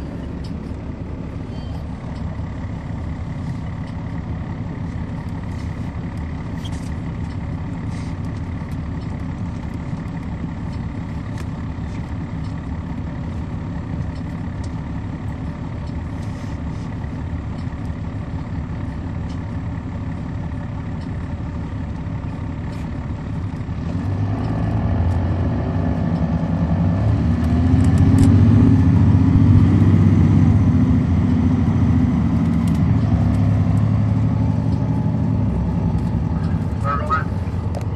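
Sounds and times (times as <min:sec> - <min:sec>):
diesel bus engine running: 0:00.0 - 0:37.9.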